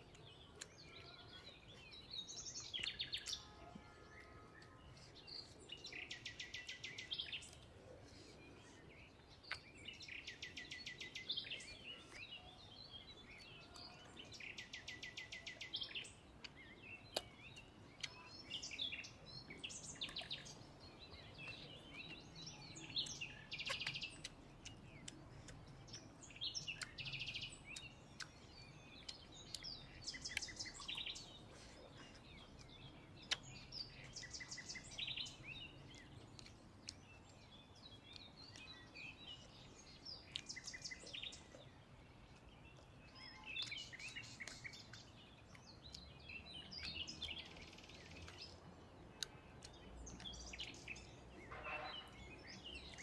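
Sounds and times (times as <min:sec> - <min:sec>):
faint background noise: 0:00.0 - 0:53.0
small birds chirping: 0:00.0 - 0:53.0.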